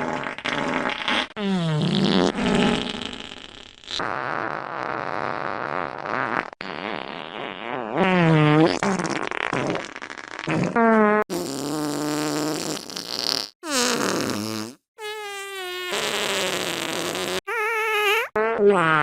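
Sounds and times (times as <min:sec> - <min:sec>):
fart sound effects: 0:00.0 - 0:19.0.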